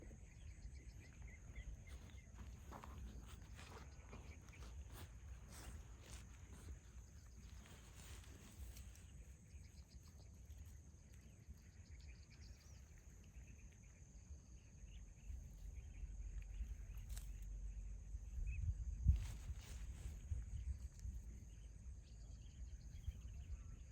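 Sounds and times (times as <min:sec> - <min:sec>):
faint chirps: 0:00.0 - 0:23.9.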